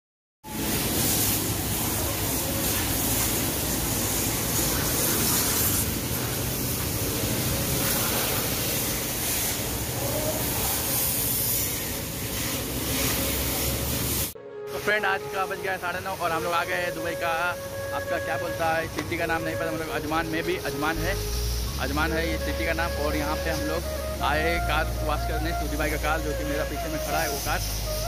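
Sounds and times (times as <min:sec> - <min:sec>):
water hoses spraying: 0:00.5 - 0:14.4, 0:15.2 - 0:28.0.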